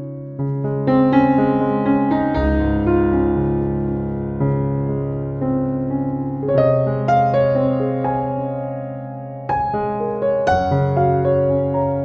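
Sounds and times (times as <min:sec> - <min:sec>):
soft piano melody: 0:00.0 - 0:12.0.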